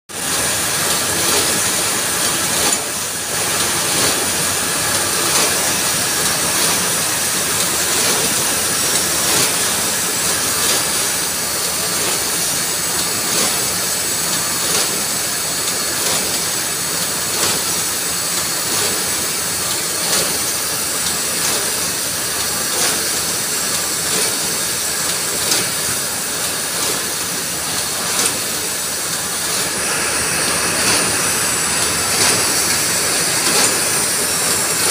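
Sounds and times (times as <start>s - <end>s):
factory machines hissing and humming: 0.1s - 34.9s.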